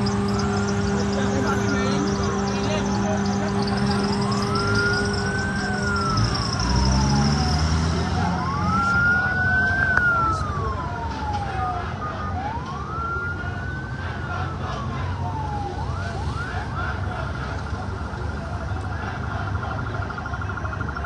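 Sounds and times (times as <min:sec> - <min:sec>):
low vehicle engine rumble: 0:00.0 - 0:21.0
police siren wailing: 0:00.0 - 0:21.0.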